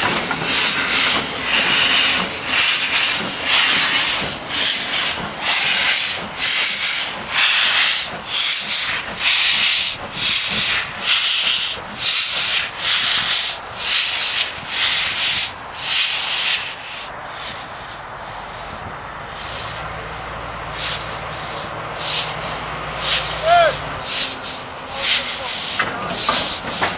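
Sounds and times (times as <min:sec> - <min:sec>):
diesel engine low hum: 0:00.0 - 0:26.9
steam blowing from drain cocks: 0:00.0 - 0:26.9
steam locomotive exhaust beats: 0:00.0 - 0:26.9.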